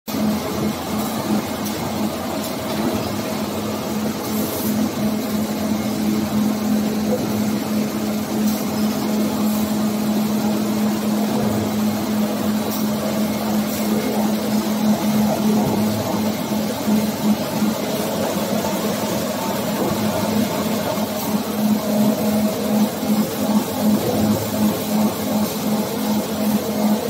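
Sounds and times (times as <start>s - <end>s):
machine running with hum: 0.1s - 27.0s.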